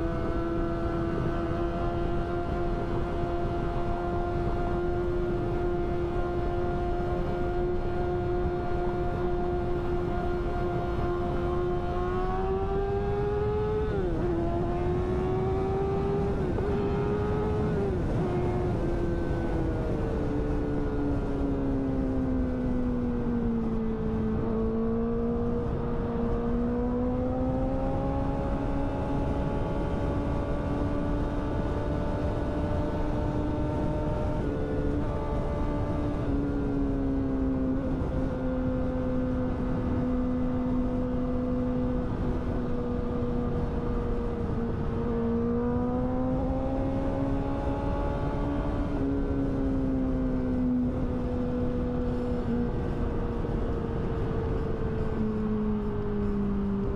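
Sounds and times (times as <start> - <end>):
low rush of wind: 0.0 - 56.9
motorcycle engine at high revs: 0.0 - 56.9.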